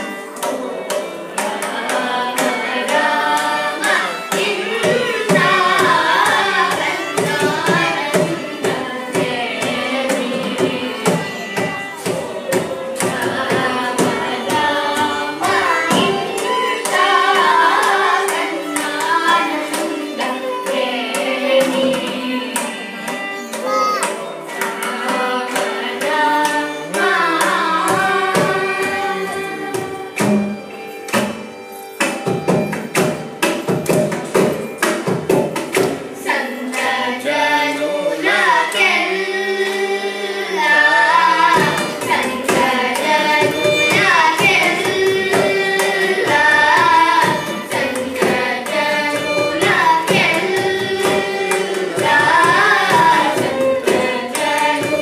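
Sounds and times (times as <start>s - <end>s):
children singing in unison: 0.0s - 30.6s, 34.4s - 55.0s
violin: 0.0s - 55.0s.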